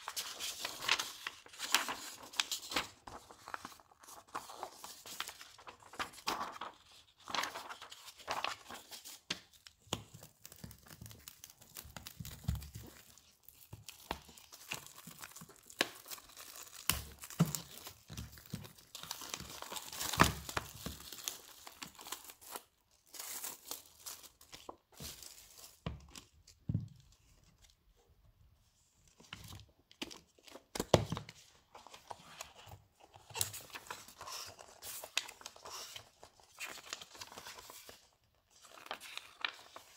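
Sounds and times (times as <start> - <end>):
book pages flipping: 0.0 - 22.6, 29.1 - 39.9
paper and plastic crinkling: 0.0 - 26.4, 29.2 - 39.9.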